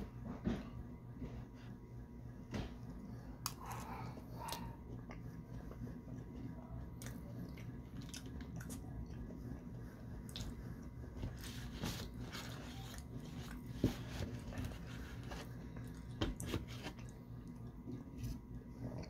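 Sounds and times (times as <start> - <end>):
low steady hum: 0.0 - 19.0
person chewing food: 3.4 - 19.0.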